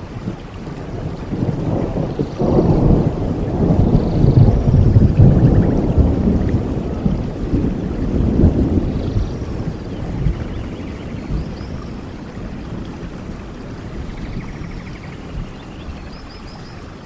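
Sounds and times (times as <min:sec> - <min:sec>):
thunder rumbling: 0:00.0 - 0:16.1
heavy rain: 0:00.0 - 0:17.0.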